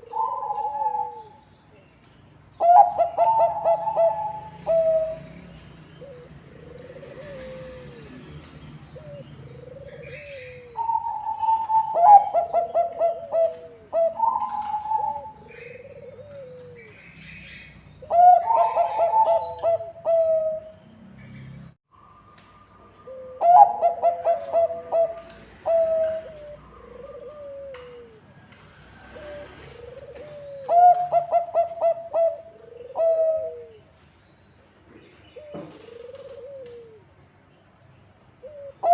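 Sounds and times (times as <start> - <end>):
dove cooing: 0.0 - 1.4, 2.6 - 20.8, 23.0 - 33.9, 35.3 - 37.2, 38.4 - 38.9.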